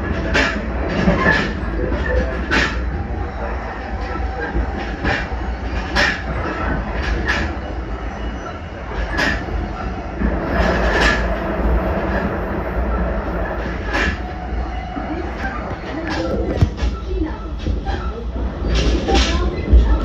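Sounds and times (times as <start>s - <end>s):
electric train rumbling: 0.0s - 20.0s
wheels clacking on rail joints: 0.0s - 20.0s.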